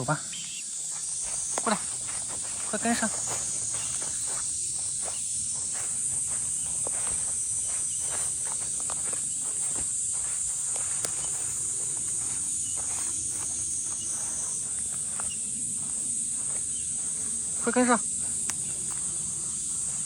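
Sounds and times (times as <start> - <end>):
footsteps rustling through grass: 0.0 - 20.0
high-pitched insect drone: 0.0 - 20.0.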